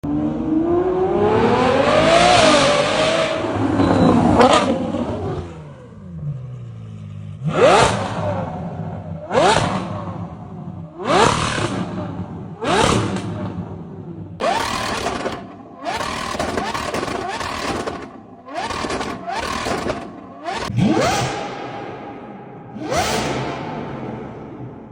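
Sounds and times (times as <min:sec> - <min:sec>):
car engine revving: 0:00.1 - 0:24.9.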